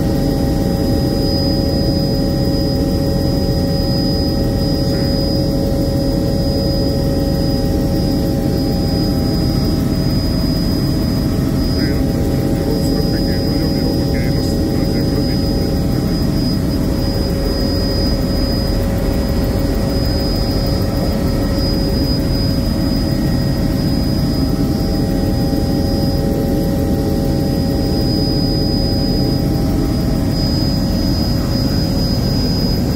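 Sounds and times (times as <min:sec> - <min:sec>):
constant high whine: 0:00.0 - 0:32.9
helicopter engine and rotor drone: 0:00.0 - 0:32.9.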